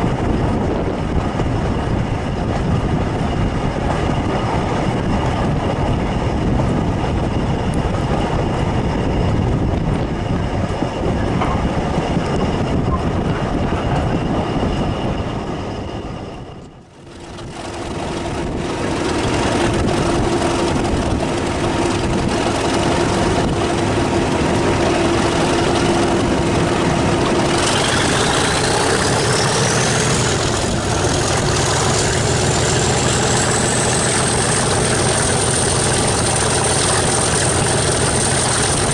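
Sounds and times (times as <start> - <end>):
diesel engine drone with whine: 0.0 - 38.9
train coaches running on rails: 0.0 - 38.9.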